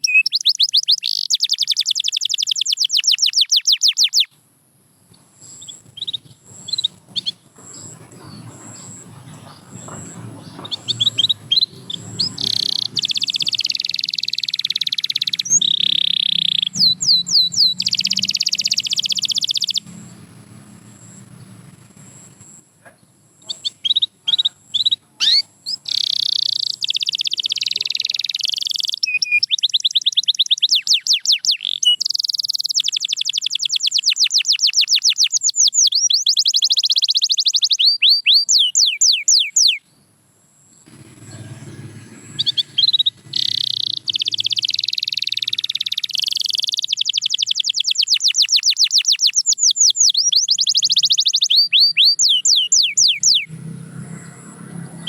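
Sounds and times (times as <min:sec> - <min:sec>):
canary singing trills: 0:00.0 - 0:04.4, 0:05.4 - 0:55.0.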